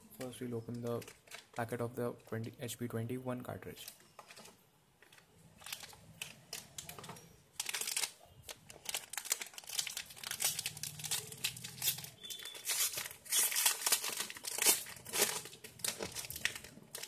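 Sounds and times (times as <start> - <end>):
packet crinkling and tearing: 0.2 - 1.9, 3.8 - 17.0.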